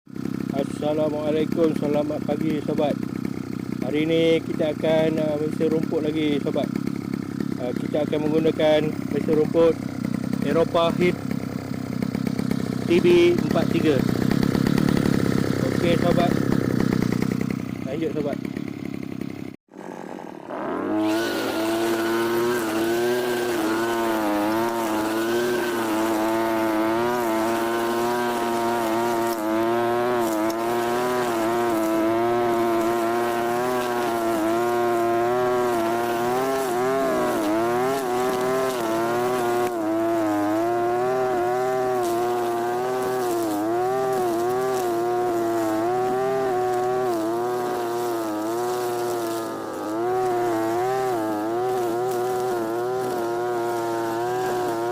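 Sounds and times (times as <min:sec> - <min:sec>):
brush cutter engine cutting grass: 0:00.1 - 0:54.9.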